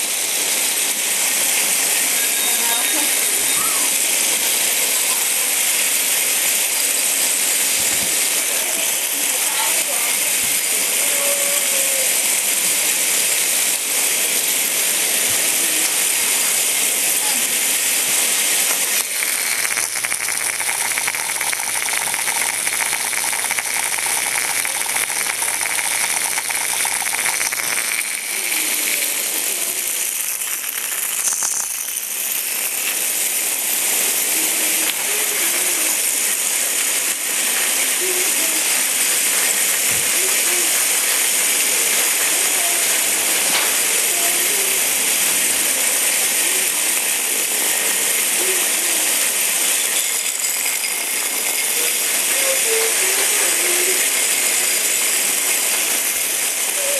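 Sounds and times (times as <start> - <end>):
constant hiss: 0.0 - 56.9
toy robots buzzing and rattling: 0.0 - 56.9.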